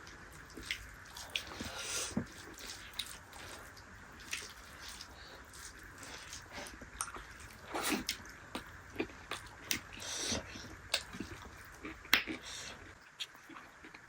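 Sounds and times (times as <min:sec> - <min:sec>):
wet chewing and lip smacks: 0:00.6 - 0:14.0.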